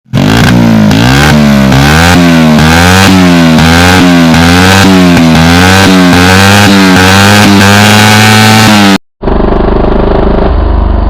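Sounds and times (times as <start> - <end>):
motorcycle engine throttle blips: 0.1 - 11.0.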